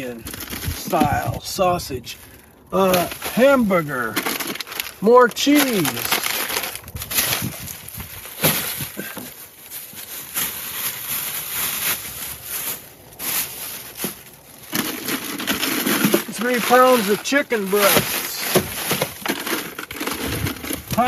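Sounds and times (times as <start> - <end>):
plastic packaging crinkling: 0.1 - 1.3, 2.8 - 21.0.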